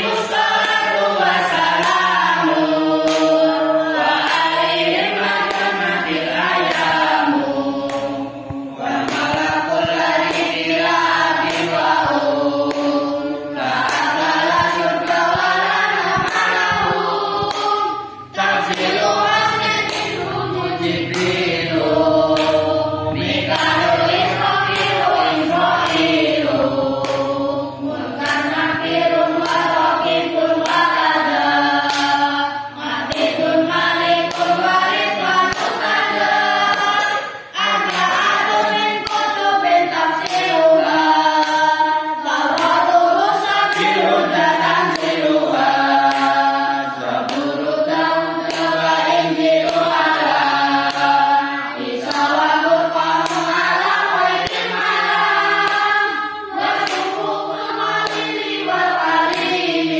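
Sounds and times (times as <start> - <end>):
boys chanting verses together: 0.0 - 59.9.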